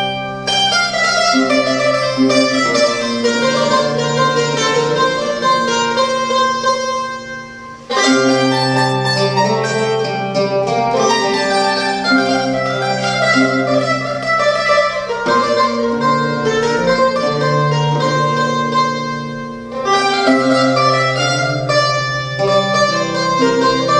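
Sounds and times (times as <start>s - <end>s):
plucked mandolin and lute folk music: 0.0s - 23.9s.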